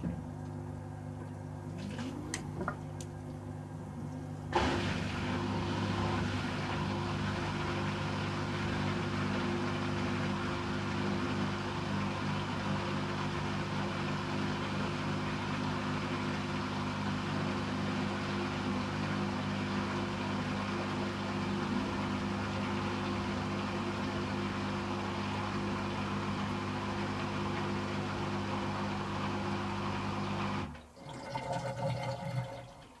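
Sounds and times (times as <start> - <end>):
washer dryer running: 0.0 - 33.0.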